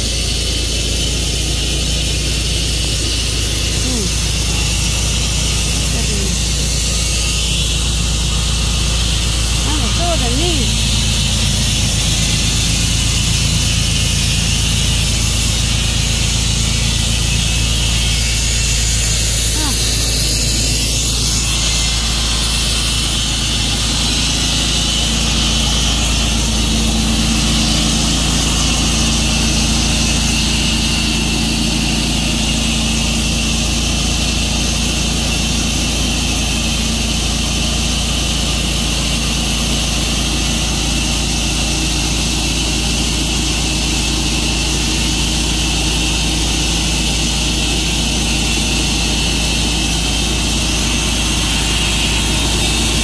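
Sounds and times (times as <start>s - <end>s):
saw blade hissing through wood: 0.0s - 33.5s, 44.0s - 53.0s
sawmill engine drone: 0.0s - 53.0s.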